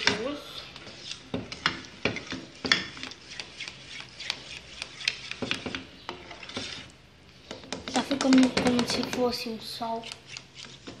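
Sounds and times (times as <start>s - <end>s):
spatula scraping saucepan: 0.0s - 11.0s.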